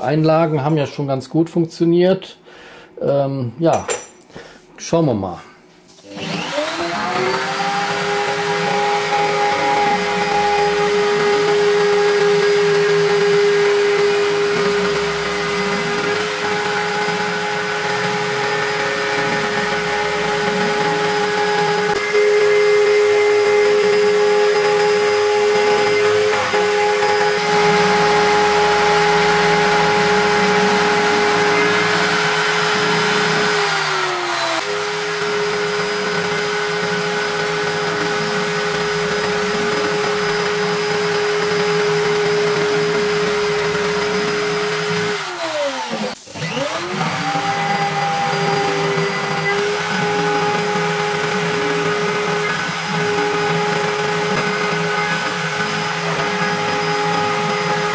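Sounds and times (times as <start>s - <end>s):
router spindle whining: 6.0s - 57.9s.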